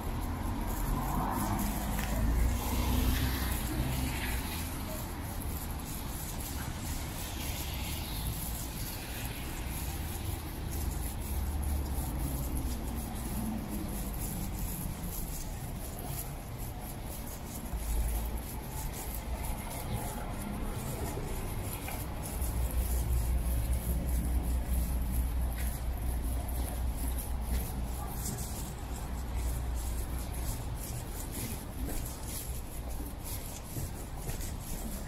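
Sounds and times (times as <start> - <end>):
road traffic on wet street: 0.0 - 35.0.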